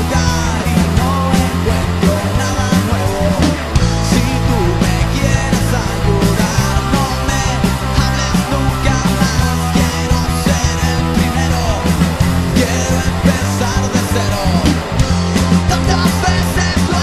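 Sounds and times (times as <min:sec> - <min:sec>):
loud punk rock song: 0:00.0 - 0:17.0.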